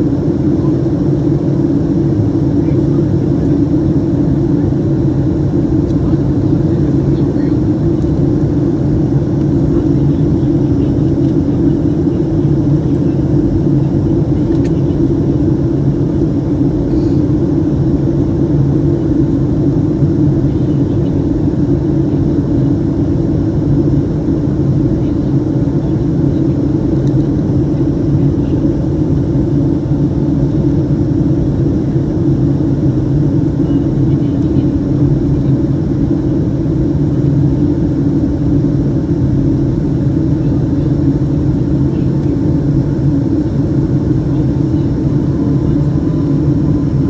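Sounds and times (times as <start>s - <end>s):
jet engine drone in cabin: 0.0s - 47.0s.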